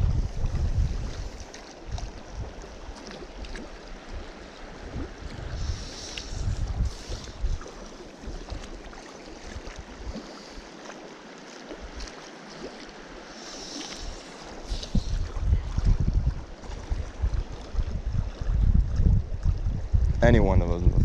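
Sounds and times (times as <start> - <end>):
wind buffeting microphone: 0.0 - 10.7, 13.8 - 21.0
stream running: 0.0 - 21.0.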